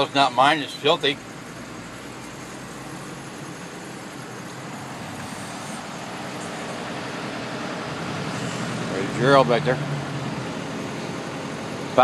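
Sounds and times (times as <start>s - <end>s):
diesel truck engine running: 0.0s - 12.0s
road noise: 0.0s - 12.0s.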